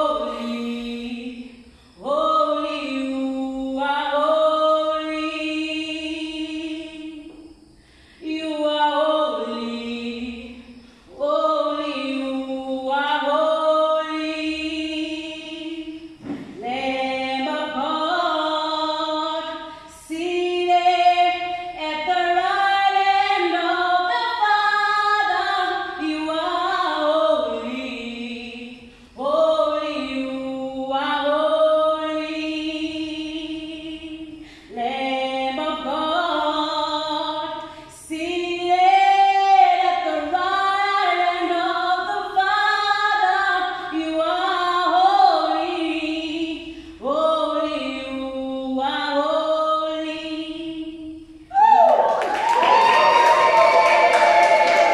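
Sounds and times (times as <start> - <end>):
woman singing unaccompanied: 0.0 - 51.5.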